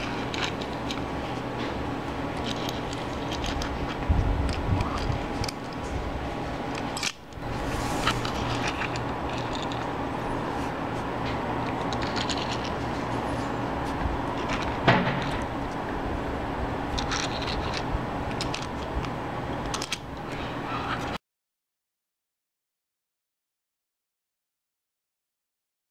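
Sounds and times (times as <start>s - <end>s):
background hum and hiss: 0.0s - 21.2s.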